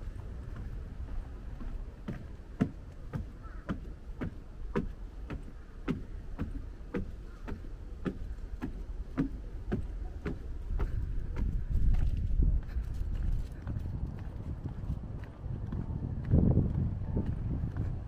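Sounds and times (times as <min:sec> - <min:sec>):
footsteps on wooden stairs: 0:00.0 - 0:18.0.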